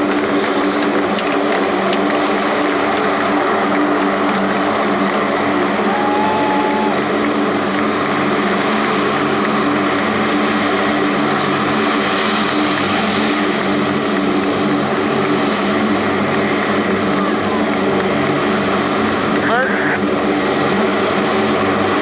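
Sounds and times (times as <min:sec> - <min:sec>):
turboprop propeller drone: 0:00.0 - 0:22.0.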